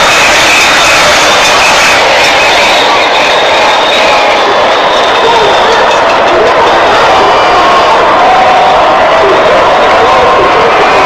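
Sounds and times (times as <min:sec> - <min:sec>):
crowd din of voices: 0:00.0 - 0:11.0.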